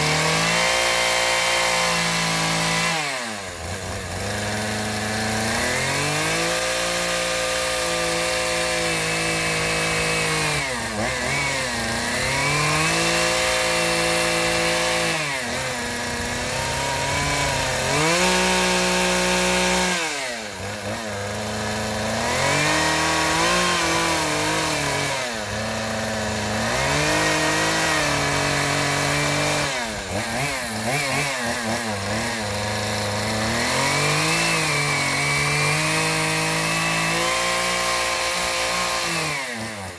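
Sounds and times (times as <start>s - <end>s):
chainsaw engine running: 0.0s - 39.9s.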